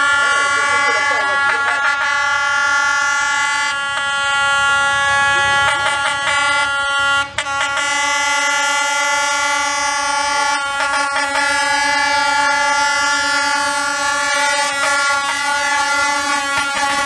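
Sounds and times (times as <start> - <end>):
locomotive air horn blaring: 0.0 - 17.0.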